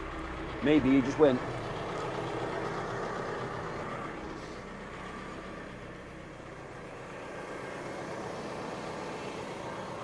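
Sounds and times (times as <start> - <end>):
diesel tractor engine idling: 0.0 - 10.0.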